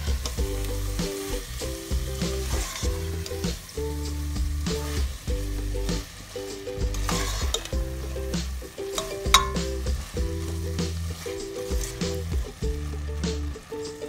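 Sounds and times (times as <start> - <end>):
background music: 0.0 - 14.0
light sizzle: 0.0 - 14.0.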